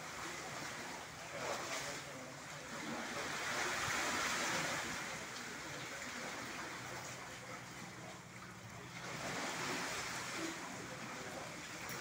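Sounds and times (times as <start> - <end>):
sea waves washing against rocks: 0.0 - 6.8, 9.0 - 12.0.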